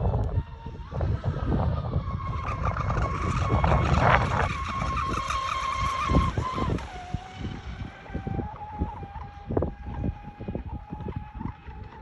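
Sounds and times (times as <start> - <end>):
model boat electric motor whining: 0.0 - 12.0.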